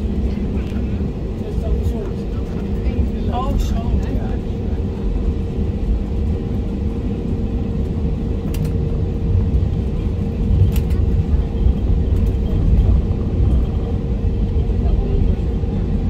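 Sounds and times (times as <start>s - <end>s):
idling jet engines hum: 0.0s - 16.0s
wheels rumbling on taxiway: 0.0s - 16.0s.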